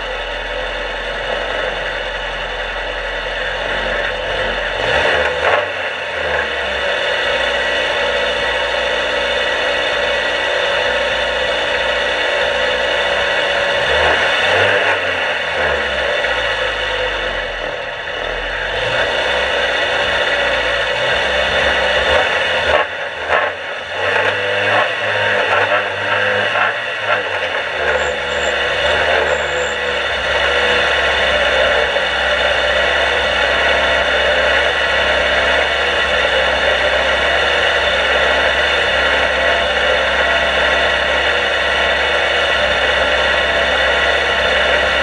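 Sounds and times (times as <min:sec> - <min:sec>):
race car engine revving: 0:00.0 - 0:45.0.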